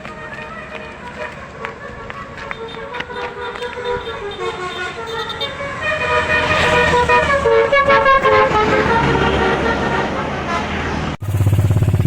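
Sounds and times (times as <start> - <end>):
multi-tone bus horn melody: 0.0 - 11.2
bus engine rumble: 0.0 - 12.0.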